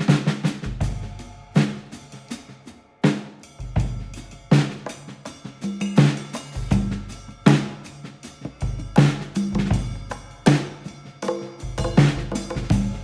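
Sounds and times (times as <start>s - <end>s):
drum and cymbal beat: 0.0s - 13.0s.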